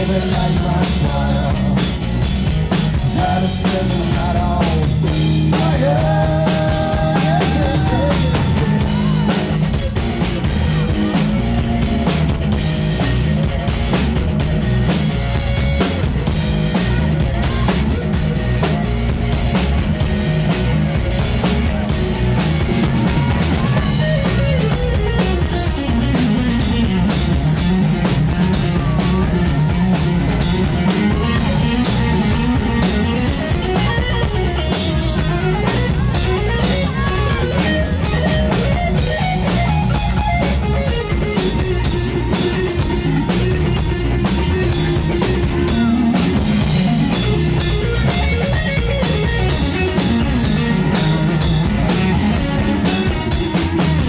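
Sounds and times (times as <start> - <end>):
drum kit beat: 0.0 - 54.0
electric guitar lead: 0.0 - 54.0.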